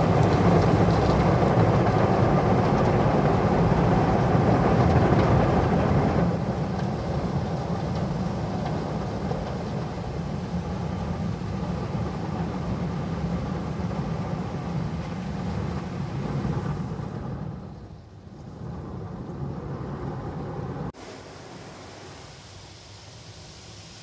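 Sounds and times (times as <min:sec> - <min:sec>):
car wash machine rumble and hiss: 0:00.0 - 0:24.0.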